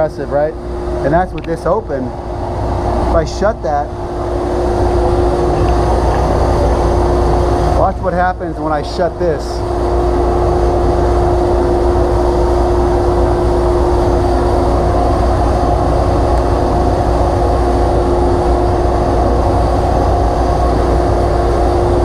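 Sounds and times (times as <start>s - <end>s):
dust collector rushing air: 0.0s - 22.0s.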